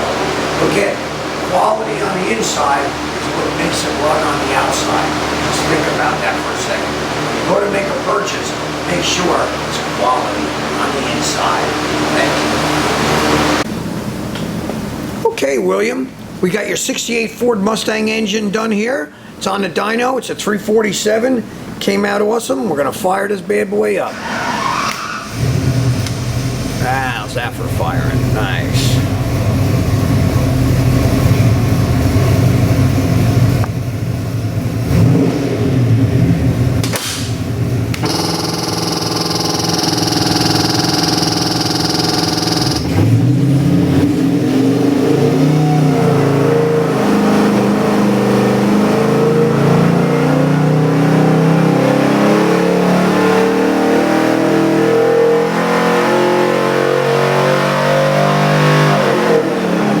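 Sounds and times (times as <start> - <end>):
engine running on dyno: 0.0 - 15.2, 25.2 - 60.0.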